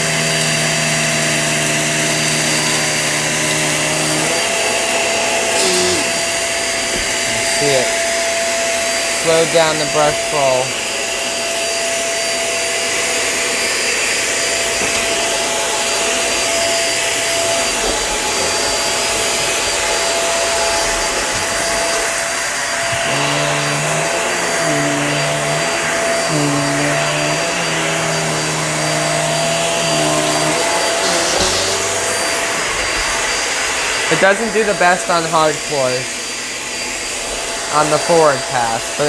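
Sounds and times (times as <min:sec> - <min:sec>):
upright vacuum motor whine: 0:00.0 - 0:39.0.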